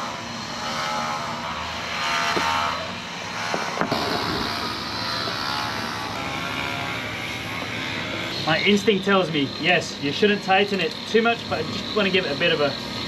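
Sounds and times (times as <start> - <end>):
engine-like background noise: 0.0 - 13.0.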